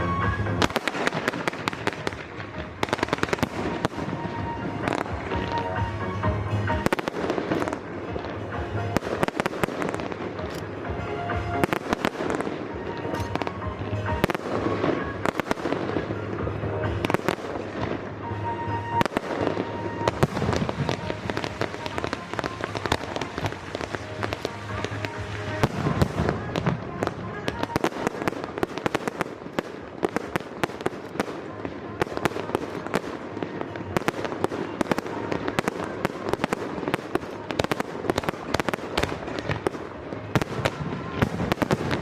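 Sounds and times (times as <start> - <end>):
fireworks bangs and crackling: 0.0 - 42.0
music playing: 0.0 - 42.0.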